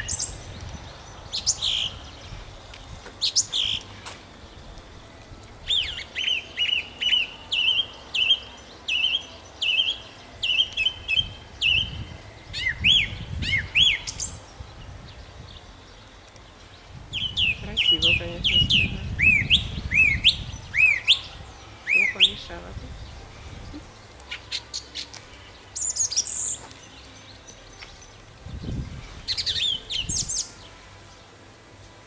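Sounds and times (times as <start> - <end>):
nightingale singing: 0.0 - 32.0.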